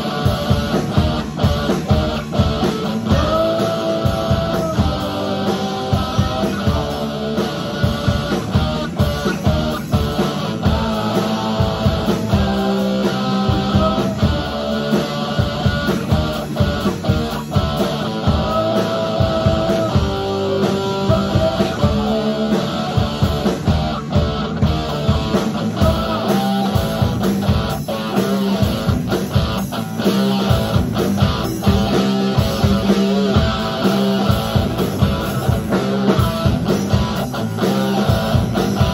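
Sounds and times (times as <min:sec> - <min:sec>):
drum kit beat: 0:00.0 - 0:38.9
electric guitar: 0:00.0 - 0:38.9.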